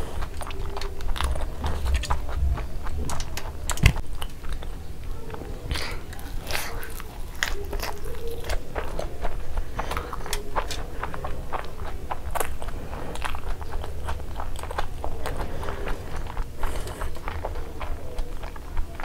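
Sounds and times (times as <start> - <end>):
close-miked chewing: 0.0 - 19.0
crunching of crisp egg: 0.0 - 19.0.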